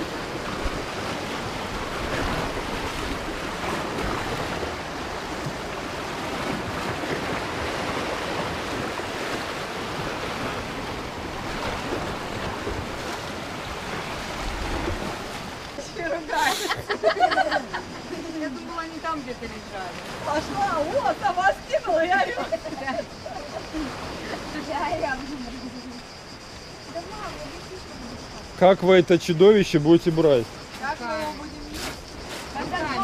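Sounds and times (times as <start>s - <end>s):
sea waves on rocky shore: 0.0s - 33.0s.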